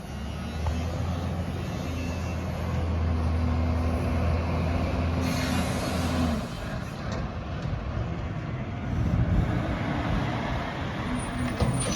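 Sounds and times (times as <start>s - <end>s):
diesel engine humming: 0.0s - 11.9s.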